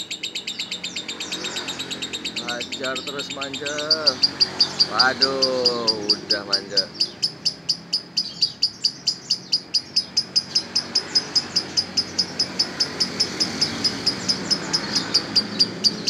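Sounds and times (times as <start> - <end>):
lovebird chirping: 0.0 - 16.0.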